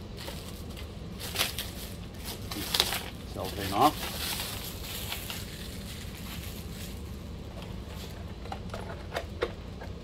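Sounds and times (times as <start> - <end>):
cellophane crinkling: 0.1 - 8.6.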